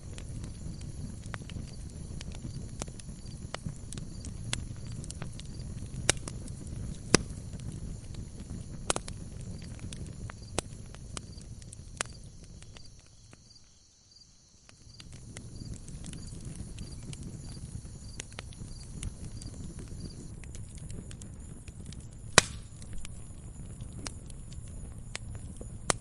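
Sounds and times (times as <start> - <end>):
log fire crackling: 0.0 - 13.9, 14.6 - 26.0.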